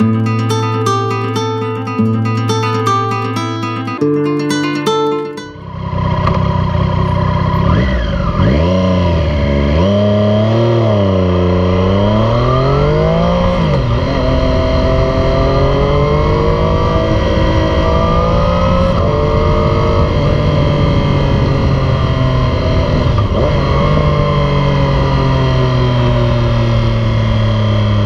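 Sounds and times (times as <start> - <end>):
motorcycle engine revving: 4.6 - 28.0.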